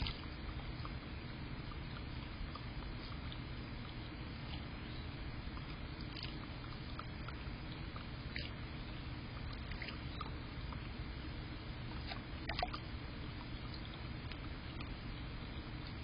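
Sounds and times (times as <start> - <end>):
outdoor microphone hiss and rumble: 0.0 - 16.0.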